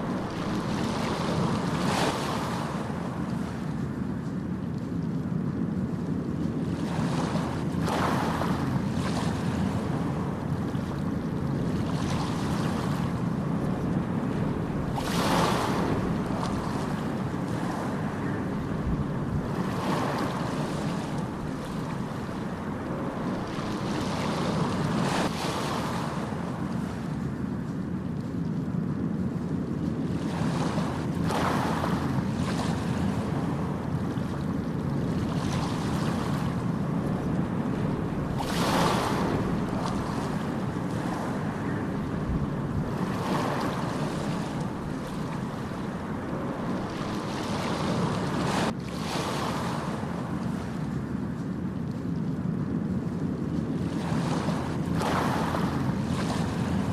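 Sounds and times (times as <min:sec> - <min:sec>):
wave washing in: 0:00.0 - 0:04.3, 0:06.6 - 0:27.8, 0:29.8 - 0:51.5, 0:52.9 - 0:56.9
ocean waves rumbling: 0:00.0 - 0:56.9.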